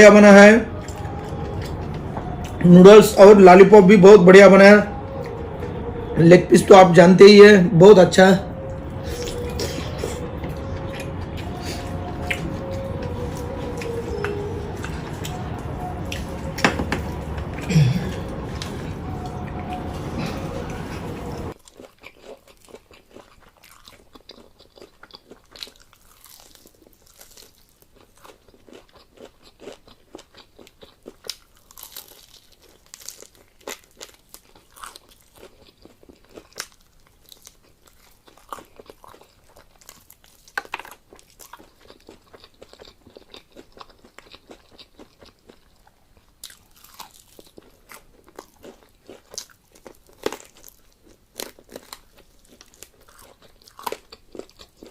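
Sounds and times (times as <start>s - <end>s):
person chewing and crunching food: 8.8s - 54.9s.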